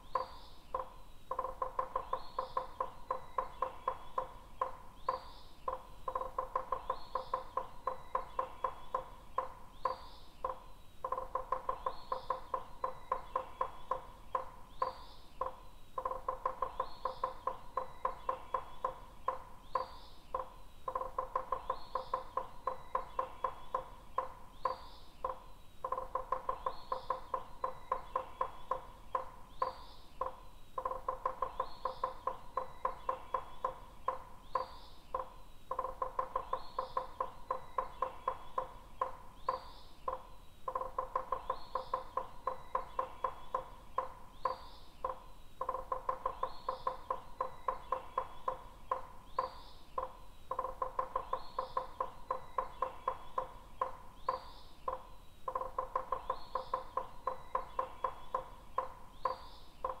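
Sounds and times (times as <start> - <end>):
rising bird chirps: 0.0 - 60.0
woodpecker hammering on wood: 0.0 - 60.0.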